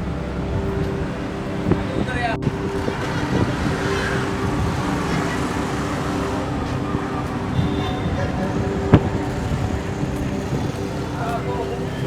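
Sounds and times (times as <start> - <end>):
engine hum: 0.0 - 12.0
street traffic: 0.0 - 12.0.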